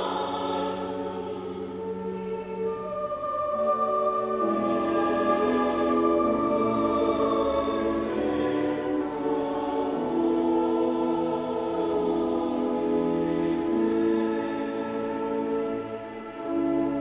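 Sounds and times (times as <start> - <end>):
slow sacred music chords: 0.0 - 17.0.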